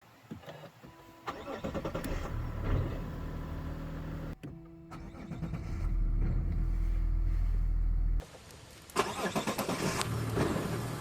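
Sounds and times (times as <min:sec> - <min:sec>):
car engine starting and running: 0:00.8 - 0:08.2, 0:09.0 - 0:11.0.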